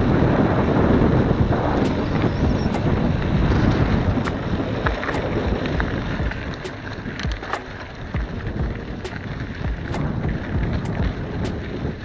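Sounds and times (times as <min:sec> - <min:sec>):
tyres on dirt road: 0:00.0 - 0:12.0
wind rushing over microphone: 0:00.0 - 0:12.0.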